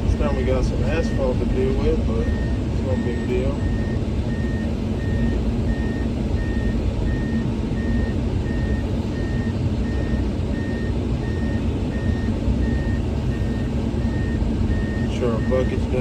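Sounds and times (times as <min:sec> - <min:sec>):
diesel engine running: 0:00.0 - 0:16.0
excavator travel alarm beeping: 0:00.0 - 0:16.0.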